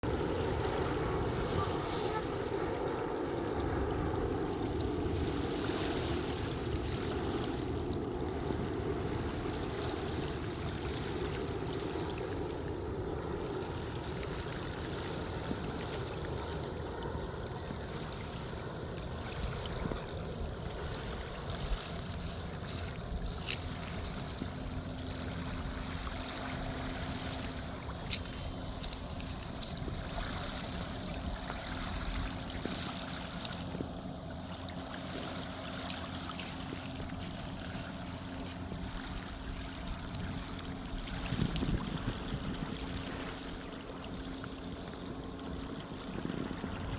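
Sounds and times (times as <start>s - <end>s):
waves washing on beach: 0.0s - 46.9s
wind on microphone: 0.0s - 46.9s.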